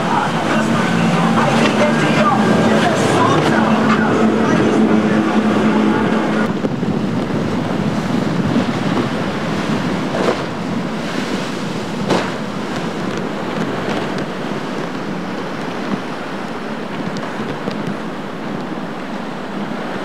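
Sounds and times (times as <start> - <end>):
loud water splashes: 0.0 - 20.0
surf washing and breaking: 0.0 - 20.0
wind buffeting microphone: 0.0 - 20.0.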